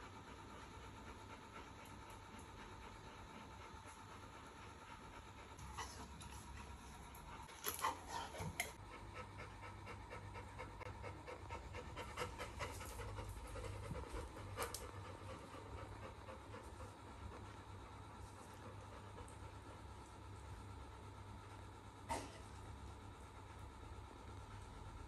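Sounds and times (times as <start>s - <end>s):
dog panting: 0.0s - 21.9s.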